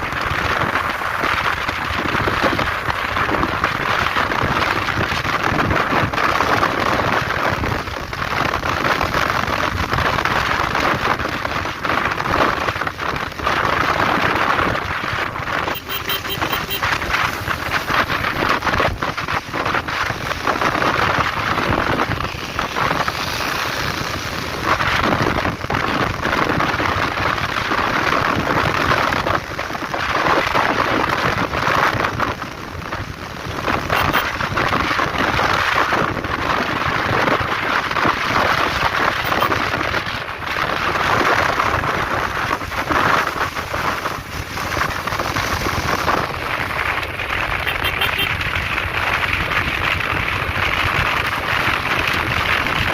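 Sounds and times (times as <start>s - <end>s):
wind and rain on microphone: 0.0s - 52.9s.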